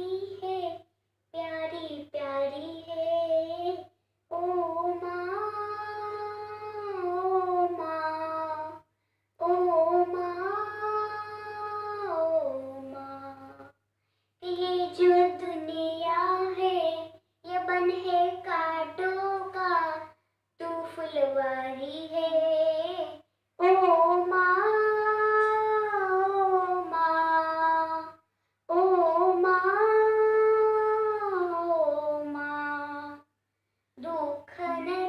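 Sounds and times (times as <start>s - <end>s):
boy singing into a microphone: 0.0s - 0.8s, 1.4s - 8.8s, 9.4s - 13.7s, 14.4s - 33.2s, 34.0s - 35.0s.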